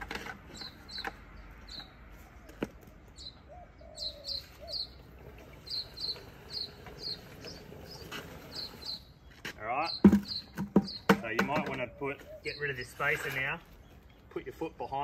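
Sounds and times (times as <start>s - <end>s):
small bird chirping: 0.5s - 14.7s.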